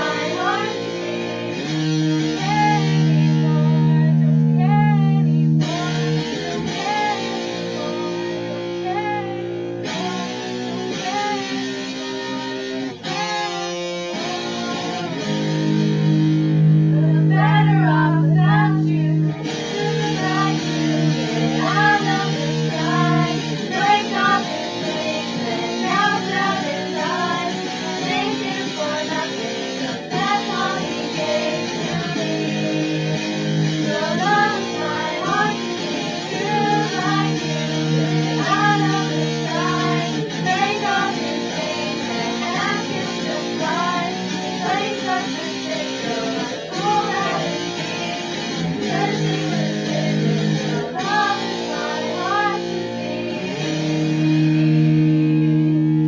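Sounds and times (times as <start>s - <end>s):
guitars playing: 0.0s - 56.0s.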